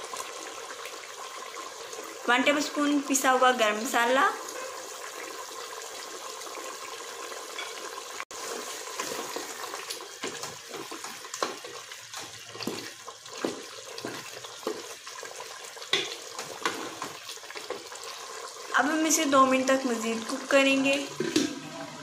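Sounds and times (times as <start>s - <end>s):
broth simmering and bubbling: 0.0s - 22.0s.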